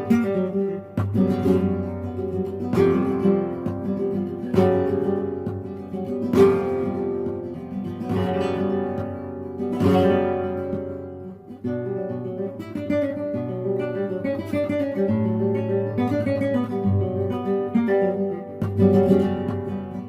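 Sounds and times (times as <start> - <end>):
acoustic guitar strummed chords: 0.0 - 20.0
picked guitar melody: 0.0 - 20.0.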